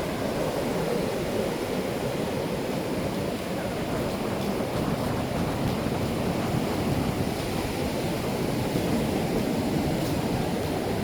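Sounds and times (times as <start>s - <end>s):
ocean surf breaking: 0.0s - 11.0s
wind rumble on microphone: 0.0s - 11.0s.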